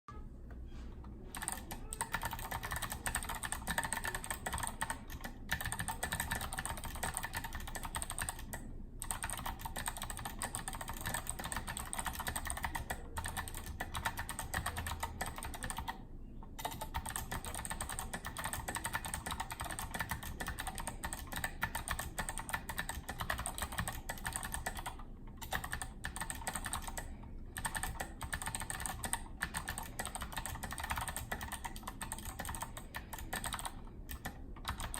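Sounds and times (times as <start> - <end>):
clicky mechanical keyboard typing: 1.3 - 16.0, 16.6 - 34.9.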